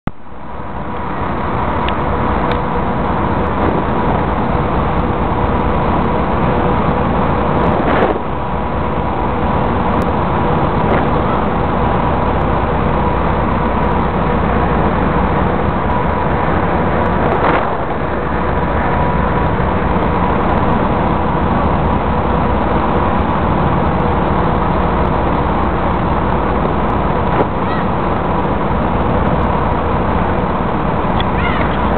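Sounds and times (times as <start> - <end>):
wind: 0.0 - 31.9
constant hum: 0.1 - 31.9
ferry engines rushing: 0.1 - 31.9
water rushing: 0.1 - 31.9.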